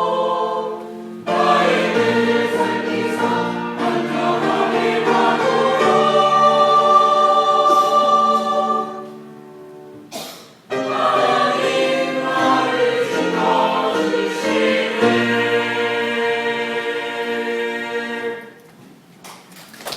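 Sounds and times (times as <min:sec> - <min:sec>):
choir singing a hymn: 0:00.0 - 0:09.5, 0:10.7 - 0:18.6.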